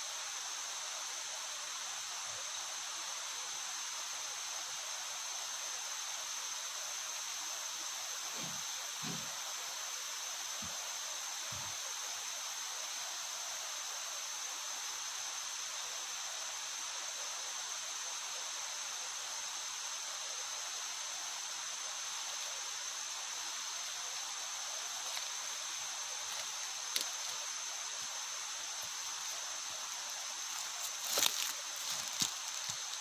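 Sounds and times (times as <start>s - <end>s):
even hiss: 0.0s - 33.0s.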